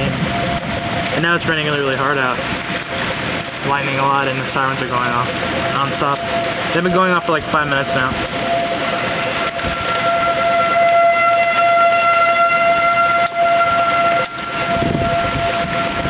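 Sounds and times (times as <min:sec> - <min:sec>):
heavy rain hiss: 0:00.0 - 0:16.0
warning siren steady tone: 0:00.0 - 0:16.0.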